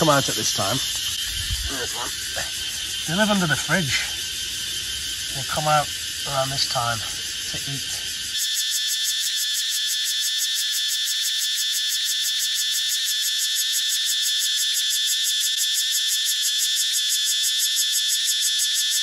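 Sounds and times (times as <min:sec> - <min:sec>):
cicadas shrilling: 0:00.0 - 0:19.0.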